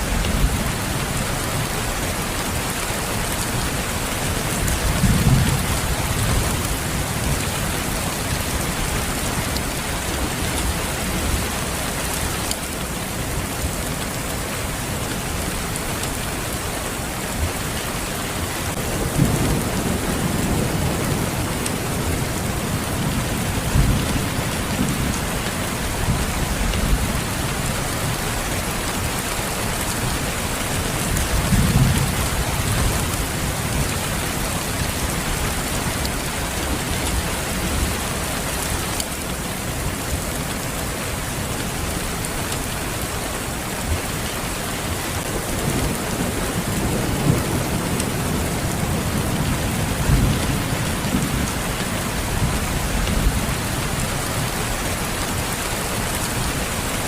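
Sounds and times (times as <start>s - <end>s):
rain hiss: 0.0s - 57.0s.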